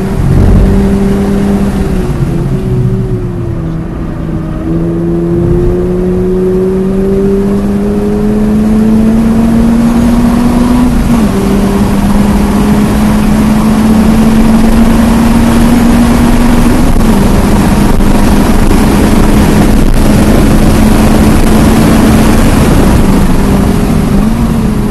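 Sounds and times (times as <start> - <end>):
car engine accelerating hard: 0.0 - 24.9
road and wind noise: 0.0 - 24.9.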